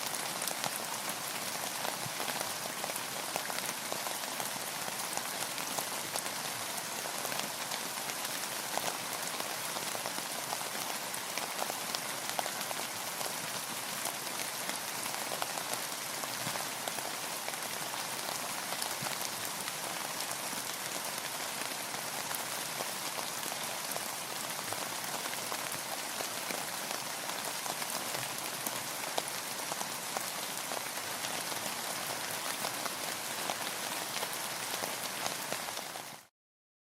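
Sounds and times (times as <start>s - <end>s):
steady rainfall: 0.0s - 36.3s.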